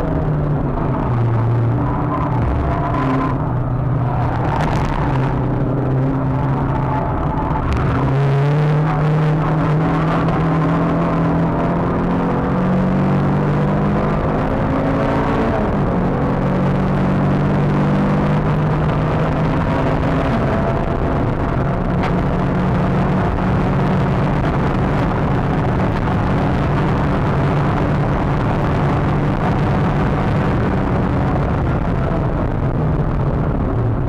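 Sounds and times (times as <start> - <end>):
car engine running steadily: 0.0 - 34.0
road and wind noise: 0.0 - 34.0.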